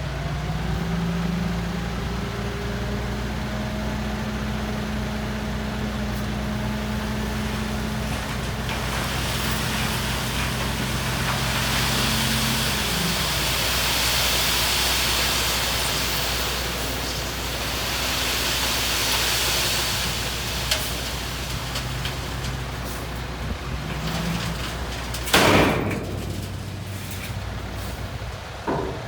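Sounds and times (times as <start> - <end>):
heavy construction machinery running: 0.0 - 29.0.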